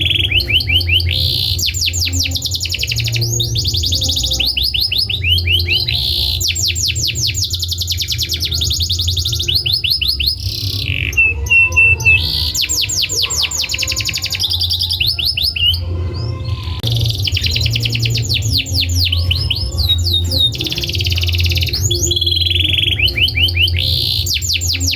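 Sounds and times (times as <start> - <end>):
canary singing trills: 0.0 - 24.9
steady low hum: 0.0 - 24.9.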